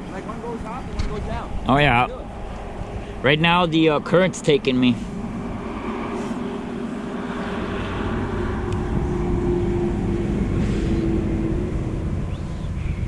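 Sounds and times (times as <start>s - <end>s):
vehicle engine droning past: 0.0s - 13.0s.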